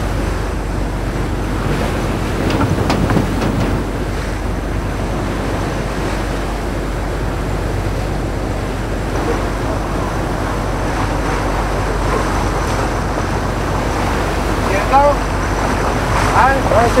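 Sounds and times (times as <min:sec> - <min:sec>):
sea water splashing along hull: 0:00.0 - 0:17.0.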